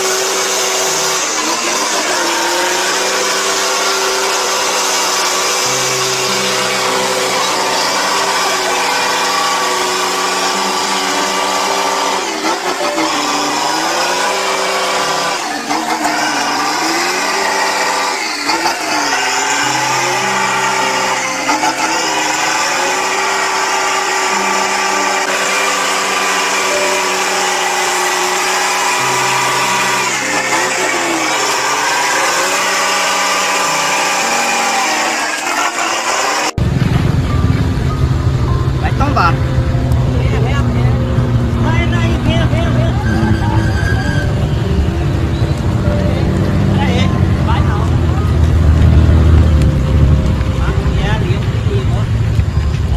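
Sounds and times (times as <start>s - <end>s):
truck engine revving: 0.0s - 52.9s.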